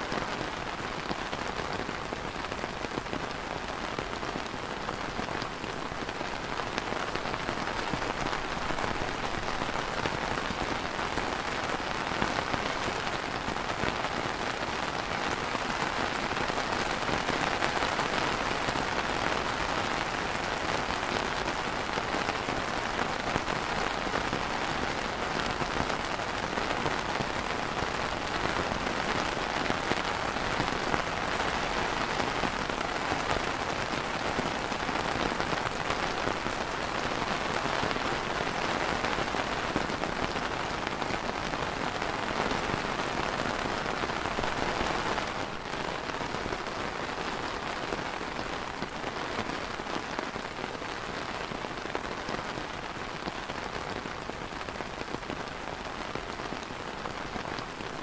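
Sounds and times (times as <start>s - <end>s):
rain on plastic umbrella: 0.0s - 58.0s.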